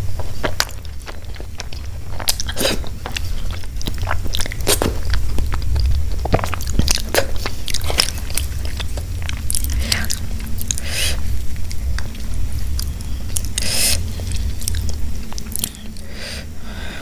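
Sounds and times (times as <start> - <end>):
person chewing food: 0.0 - 16.2.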